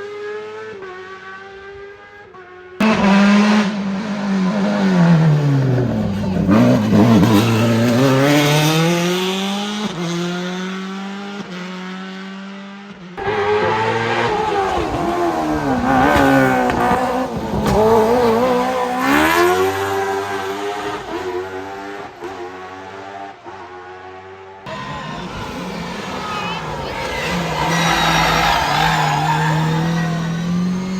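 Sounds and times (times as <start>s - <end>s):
race cars accelerating past: 0.0s - 30.9s.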